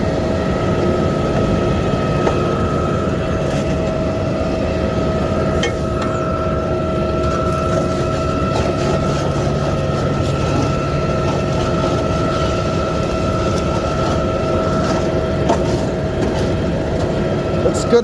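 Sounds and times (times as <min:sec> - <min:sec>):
garbage truck engine rumble: 0:00.0 - 0:18.0
steady high whine: 0:00.0 - 0:18.0.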